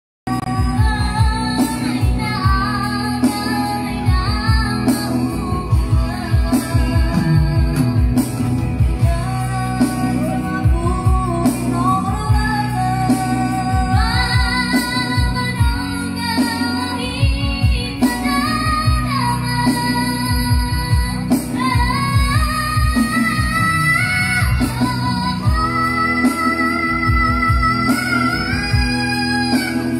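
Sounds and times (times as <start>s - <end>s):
backing music with steady beat: 0.3s - 29.9s.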